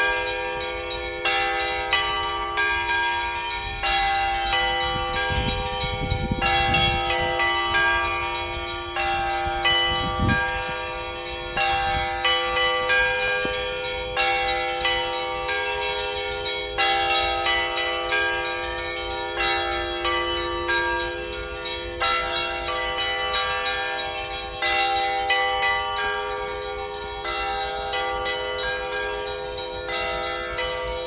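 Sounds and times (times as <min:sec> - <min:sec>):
church bells ringing: 0:00.0 - 0:31.0
low bell ringing: 0:00.0 - 0:31.0.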